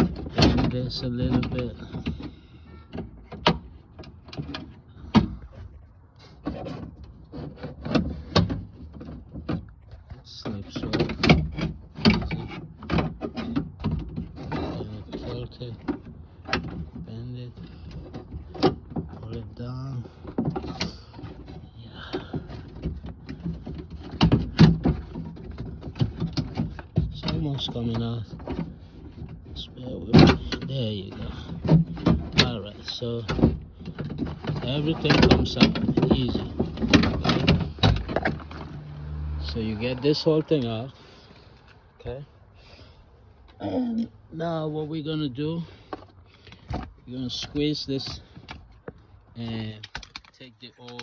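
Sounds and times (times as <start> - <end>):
plastic and metal parts rattling: 0.0 - 43.0, 44.7 - 51.0.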